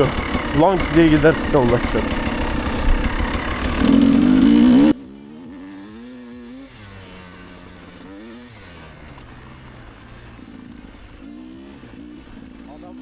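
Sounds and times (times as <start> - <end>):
faint engine rising and falling: 0.0 - 13.0
motorcycle engine revving: 0.0 - 13.0.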